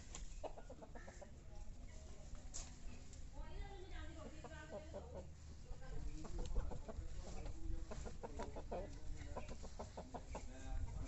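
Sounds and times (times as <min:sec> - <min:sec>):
chickens clucking: 0:00.0 - 0:02.0, 0:04.1 - 0:11.0.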